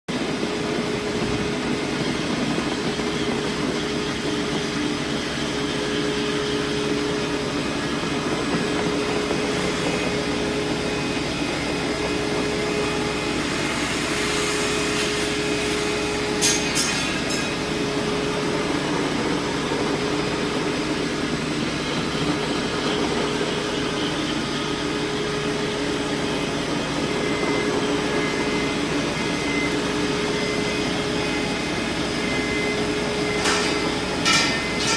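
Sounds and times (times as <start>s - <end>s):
floor grinder grinding concrete: 0.1s - 34.9s.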